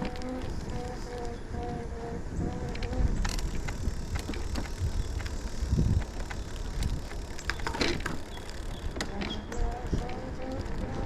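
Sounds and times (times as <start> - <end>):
rustle: 0.0 - 11.0
tyre noise: 0.0 - 11.0
wind rumble on microphone: 0.0 - 11.0.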